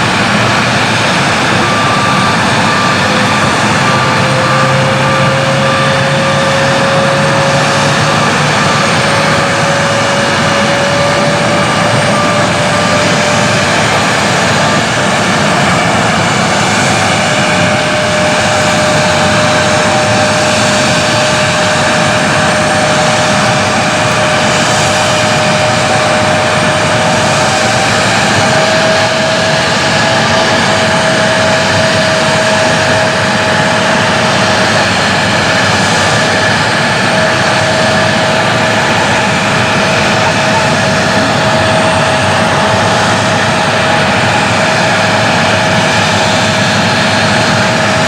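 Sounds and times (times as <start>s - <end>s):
jet engines whining and roaring: 0.0s - 48.0s.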